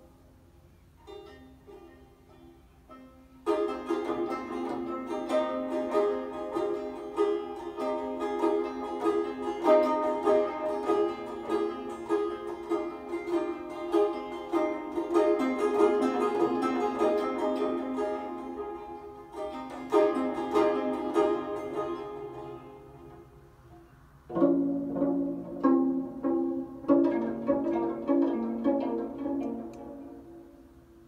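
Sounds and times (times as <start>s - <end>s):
bowed string instrument melody: 0.0s - 31.0s.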